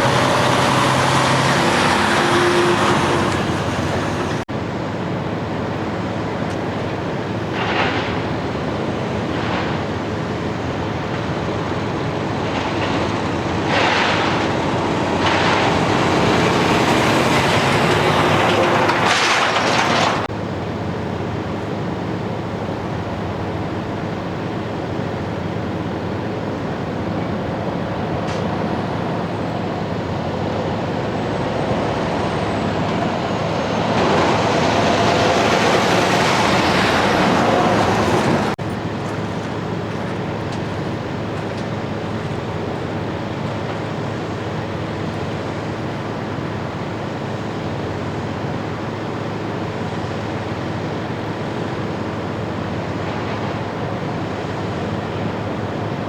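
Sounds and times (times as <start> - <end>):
traffic noise: 0.0 - 56.0
trucks driving on road: 0.0 - 56.0.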